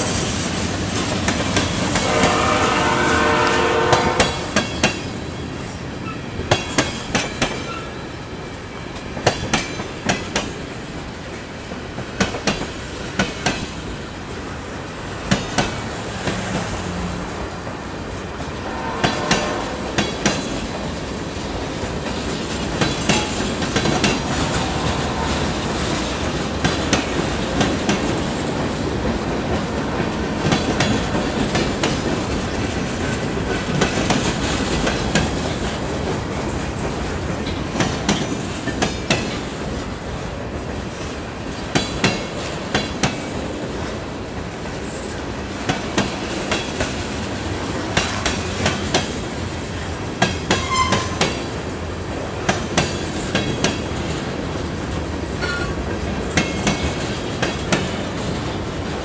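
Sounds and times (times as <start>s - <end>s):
train wheels rumbling on rails: 0.0s - 59.0s
wheels clicking over rail joints: 9.0s - 16.8s, 18.3s - 39.9s, 40.5s - 59.0s.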